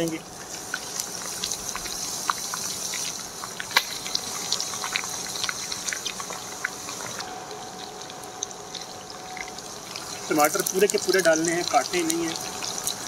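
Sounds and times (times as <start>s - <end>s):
chicken sizzling in hot oil: 0.0s - 13.0s
oil popping and crackling: 0.0s - 13.0s.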